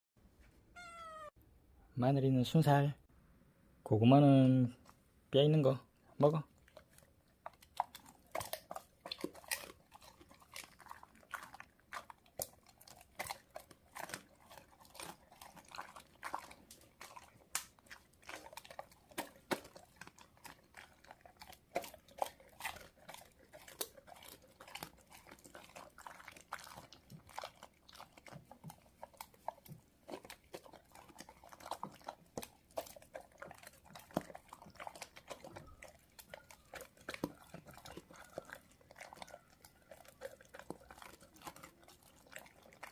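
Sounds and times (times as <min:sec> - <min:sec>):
animals chewing: 0:06.2 - 0:42.9
bones crunching: 0:06.7 - 0:42.9.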